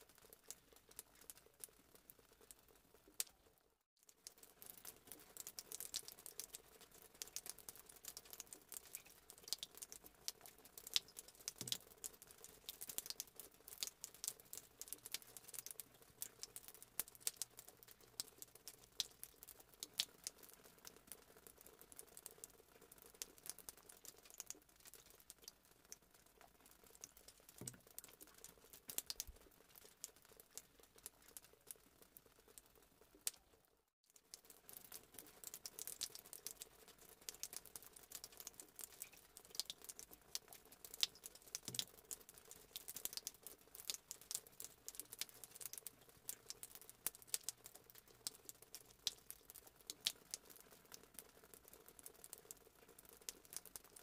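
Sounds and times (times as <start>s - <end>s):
faint clicking and crackling: 0.0s - 54.0s.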